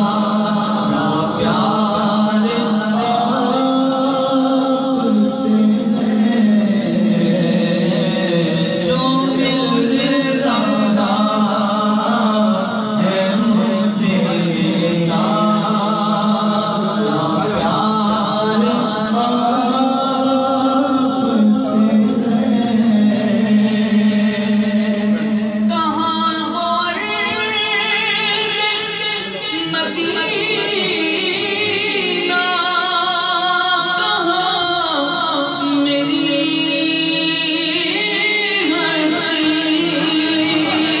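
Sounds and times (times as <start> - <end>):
man singing unaccompanied: 0.0 - 41.0.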